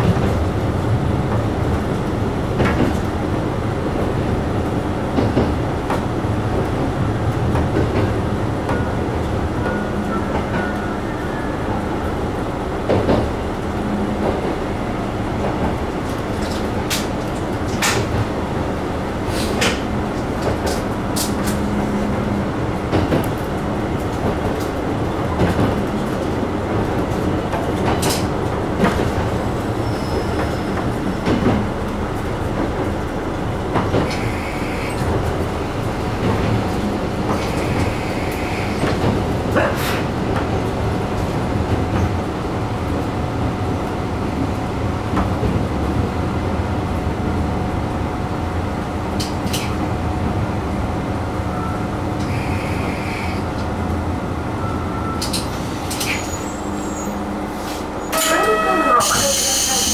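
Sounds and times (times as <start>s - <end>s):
railcar engine and rolling noise: 0.0s - 59.9s.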